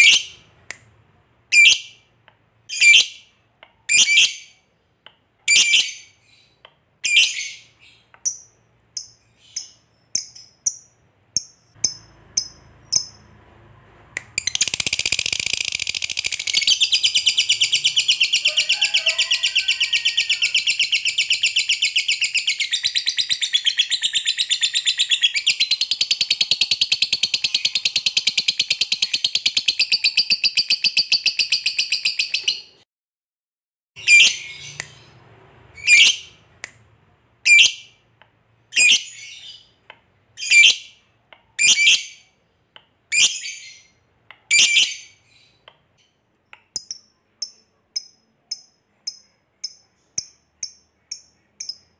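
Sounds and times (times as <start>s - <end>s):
lovebird chirping and trilling: 0.0s - 0.4s, 1.5s - 2.0s, 2.7s - 4.6s, 5.5s - 13.3s, 14.4s - 32.8s, 34.0s - 35.2s, 35.8s - 36.4s, 37.4s - 38.0s, 38.7s - 39.8s, 40.4s - 41.0s, 41.6s - 42.3s, 43.1s - 51.9s.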